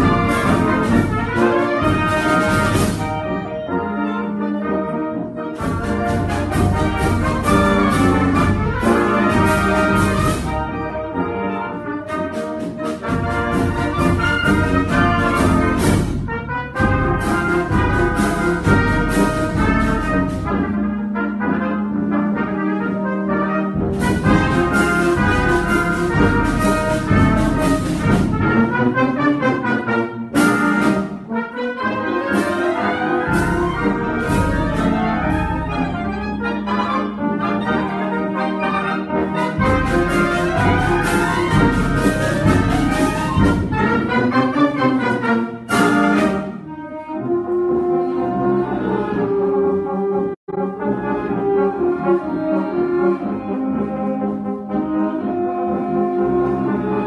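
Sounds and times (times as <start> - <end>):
brass band playing a march: 0.0 - 57.0.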